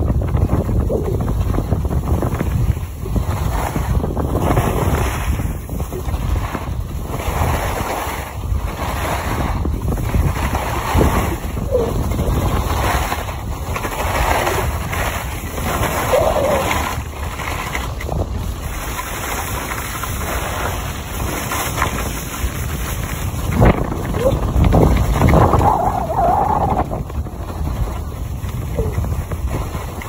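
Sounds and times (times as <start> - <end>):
skis scraping over snow: 0.0 - 30.0
wind rushing over microphone: 0.0 - 30.0.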